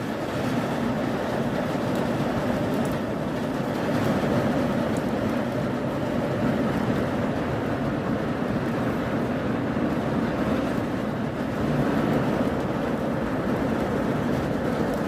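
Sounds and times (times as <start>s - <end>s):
rain falling hard: 0.0s - 15.0s.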